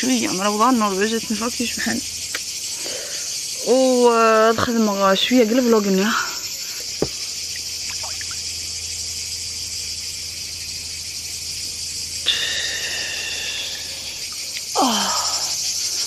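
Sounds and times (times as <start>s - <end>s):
cicadas shrilling: 0.0s - 16.0s.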